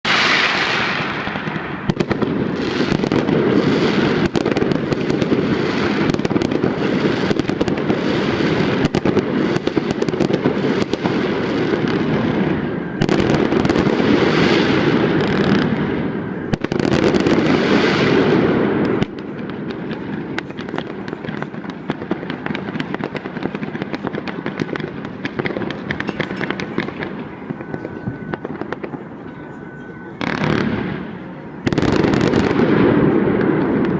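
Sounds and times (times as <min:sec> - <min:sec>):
fireworks crackling and banging: 0:00.0 - 0:33.9.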